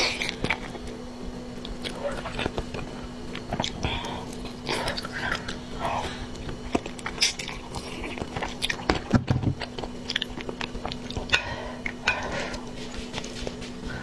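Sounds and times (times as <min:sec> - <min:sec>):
faint steady hum: 0:00.0 - 0:14.0
person chewing noodles: 0:00.0 - 0:14.0.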